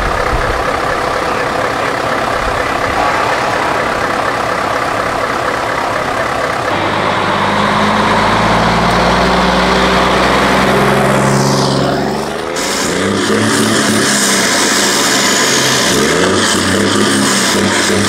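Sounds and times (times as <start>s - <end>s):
truck engine idling unevenly: 0.0s - 16.8s
trucks driving along road: 0.0s - 18.0s.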